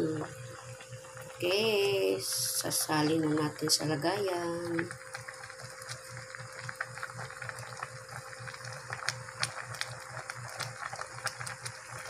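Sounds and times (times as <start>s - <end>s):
soup boiling and bubbling: 0.0s - 12.0s.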